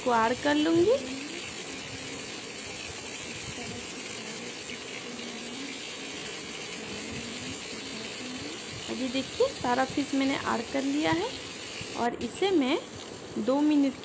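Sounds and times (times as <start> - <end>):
fish sizzling in frying pan: 0.0 - 14.0.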